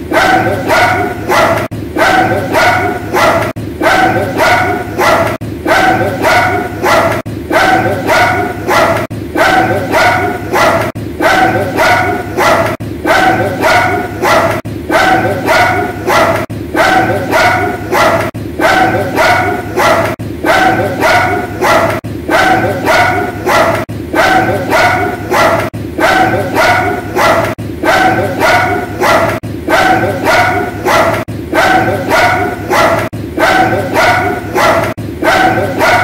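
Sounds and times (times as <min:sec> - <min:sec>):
dog yelping barks: 0:00.1 - 0:36.0.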